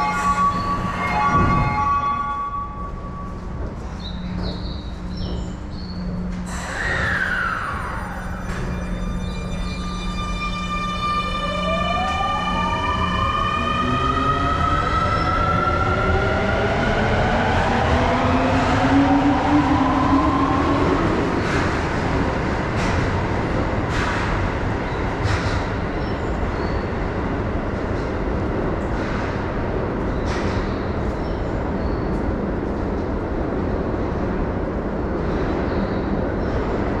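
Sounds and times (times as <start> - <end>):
train rumble: 0.0 - 37.0.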